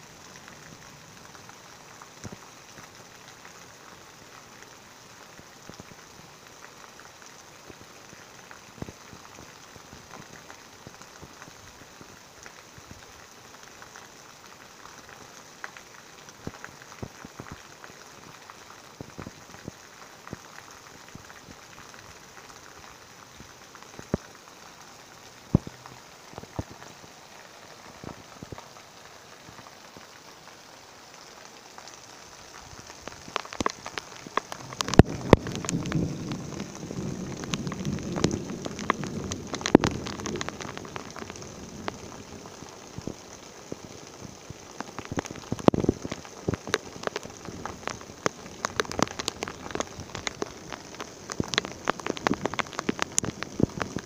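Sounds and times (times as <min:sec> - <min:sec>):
heavy rain on concrete: 0:00.0 - 0:54.0
water pouring onto pavement: 0:00.0 - 0:54.0.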